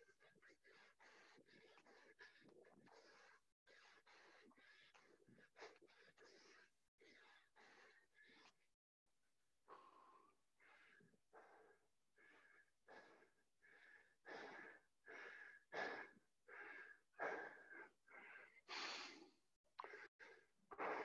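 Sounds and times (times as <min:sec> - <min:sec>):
person panting with wheeze: 0:00.0 - 0:08.7, 0:09.7 - 0:21.0.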